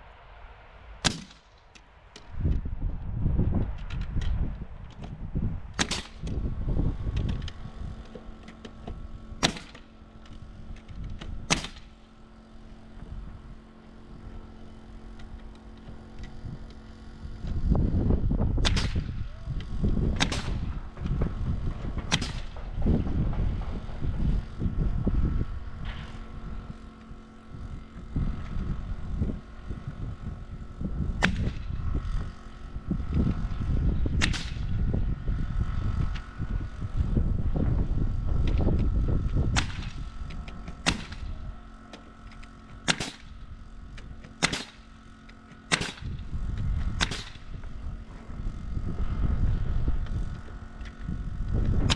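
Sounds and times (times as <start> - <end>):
faint steady hum: 0.0 - 51.9
pneumatic nailer shots: 1.0 - 2.6, 3.8 - 51.9
low uneven rumble: 2.2 - 51.9.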